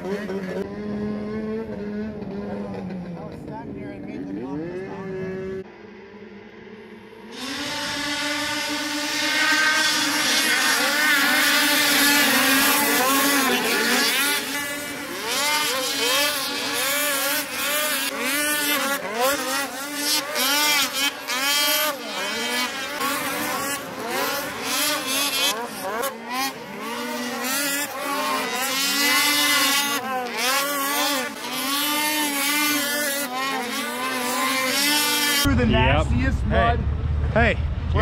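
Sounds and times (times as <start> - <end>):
snowmobile engines revving: 0.0 - 38.0.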